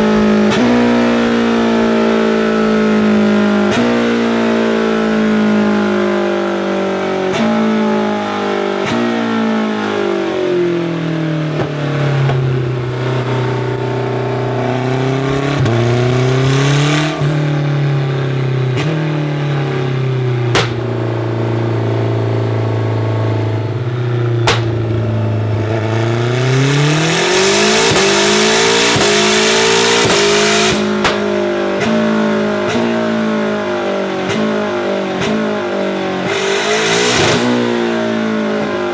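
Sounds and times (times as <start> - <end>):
exhaust pops: 0.0 - 6.0, 6.9 - 38.9
race car engine revving: 0.0 - 38.9.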